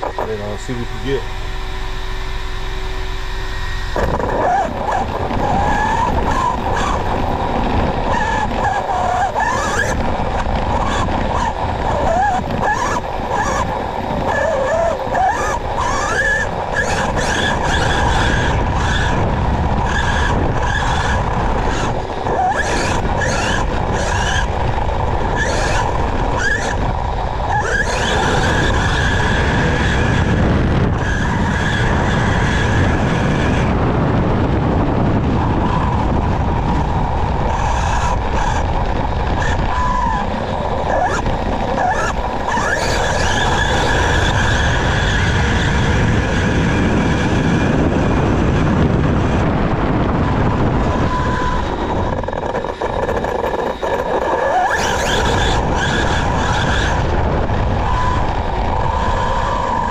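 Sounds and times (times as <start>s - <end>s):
electric motor whine: 0.0s - 59.9s
wind: 0.0s - 59.9s.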